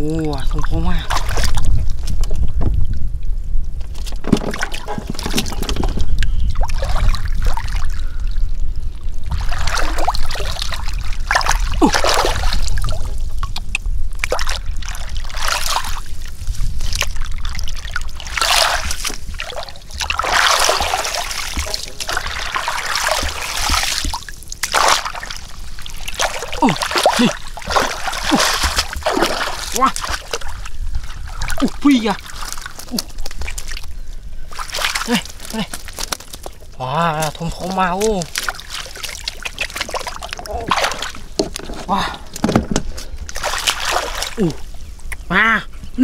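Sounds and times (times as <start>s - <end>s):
shallow water splashing: 0.3s - 2.8s, 4.0s - 45.2s.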